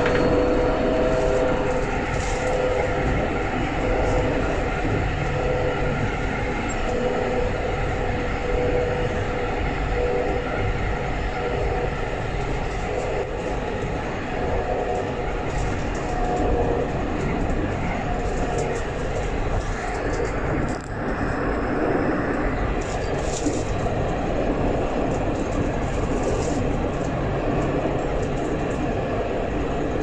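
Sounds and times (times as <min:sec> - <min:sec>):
tram wheels rumbling on rail: 0:00.0 - 0:30.0.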